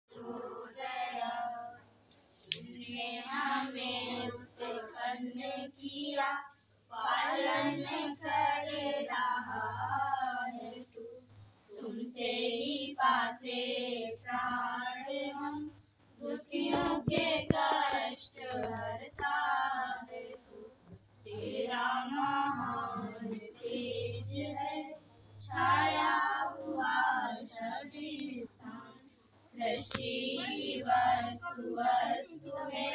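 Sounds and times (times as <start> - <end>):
voices chanting prayers in unison: 0.1 - 32.9.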